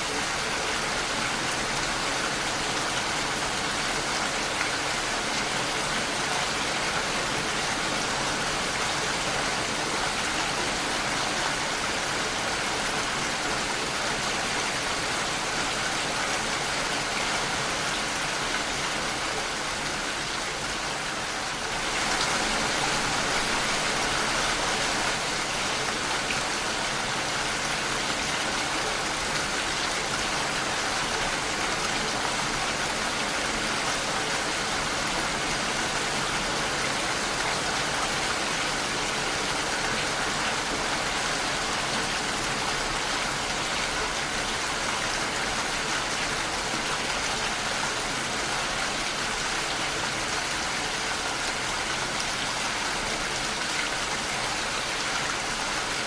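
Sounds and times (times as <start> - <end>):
rain on a window pane: 0.0 - 56.0.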